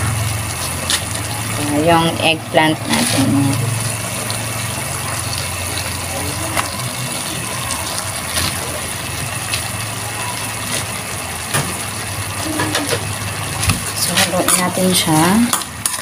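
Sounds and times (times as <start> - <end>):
low motor hum: 0.0 - 15.5.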